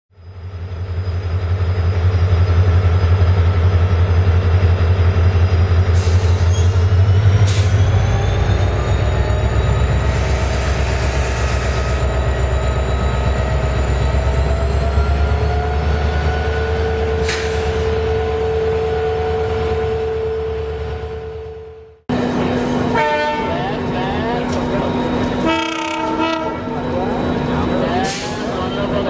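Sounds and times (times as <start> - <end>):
diesel locomotive engine drone: 0.1 - 29.0.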